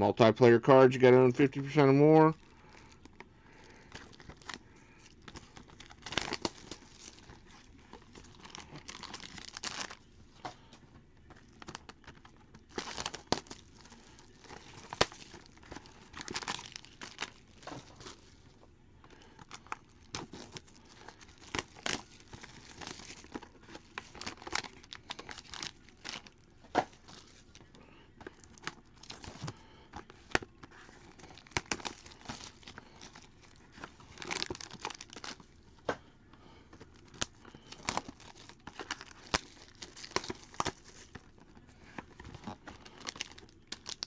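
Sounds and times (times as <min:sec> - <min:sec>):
plastic wrap crinkling and tearing: 0:01.3 - 0:18.5, 0:19.1 - 0:35.6, 0:36.8 - 0:44.0.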